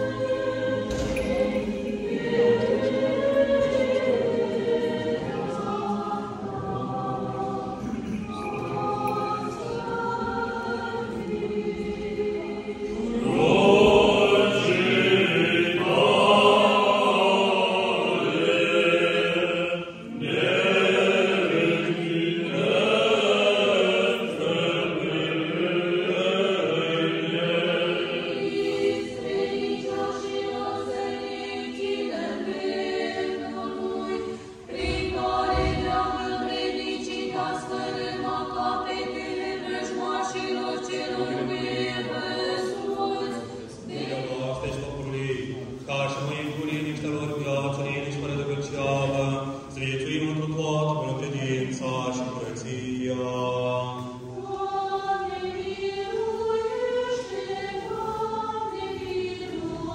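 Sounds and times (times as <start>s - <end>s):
choir singing chant a cappella: 0.0s - 59.9s.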